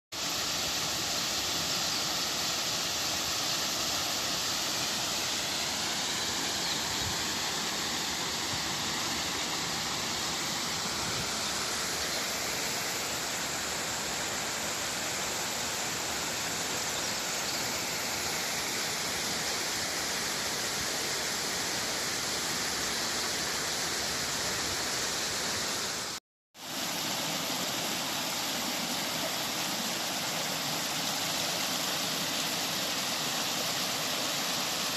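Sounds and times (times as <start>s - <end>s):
stream and waterfall over rocks: 0.1s - 34.9s.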